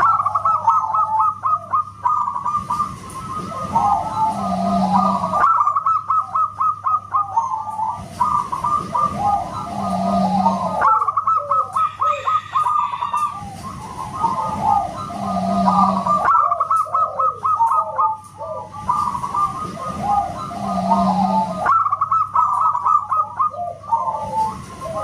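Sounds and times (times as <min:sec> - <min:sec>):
dove cooing song: 0:00.0 - 0:25.0.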